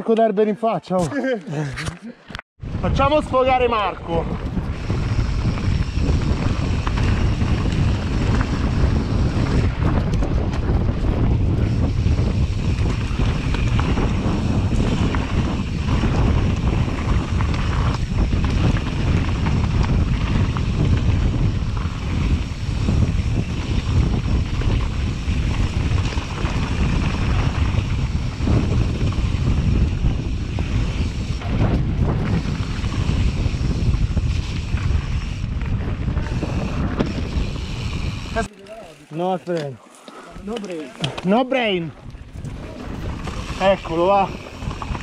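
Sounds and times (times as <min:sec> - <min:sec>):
wind rushing over microphone: 0:02.6 - 0:39.0, 0:40.3 - 0:45.0
bike tyres rumbling on dirt trail: 0:02.6 - 0:45.0.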